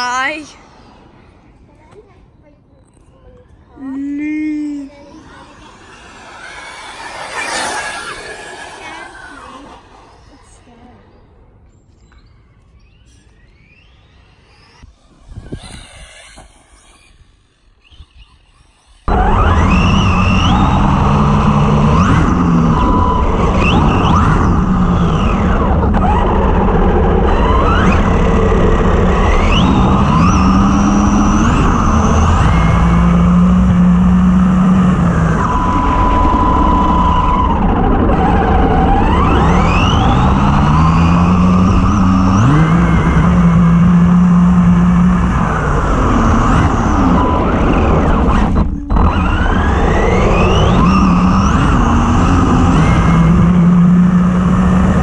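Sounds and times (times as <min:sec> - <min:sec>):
toy car electric motor whining: 0:04.9 - 0:11.2, 0:12.8 - 0:55.0.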